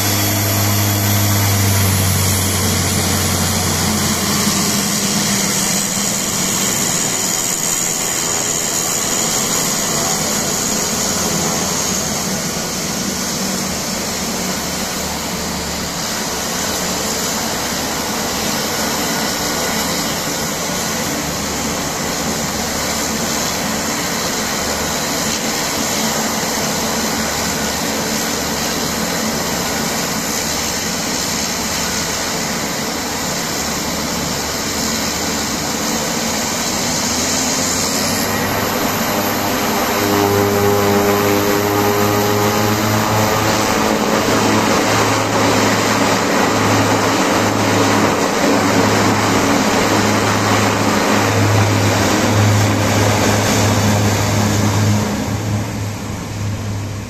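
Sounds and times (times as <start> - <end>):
turboprop engines whining: 0.0 - 57.0.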